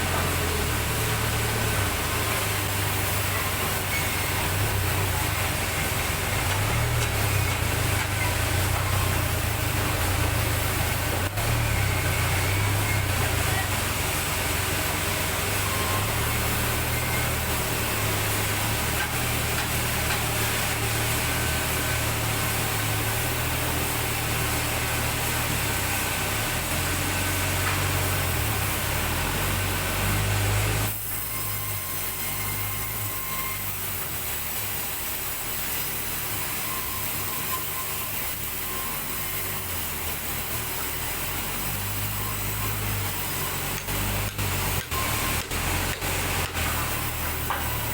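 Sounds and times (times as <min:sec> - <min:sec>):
saw cutting through log: 0:00.0 - 0:47.9.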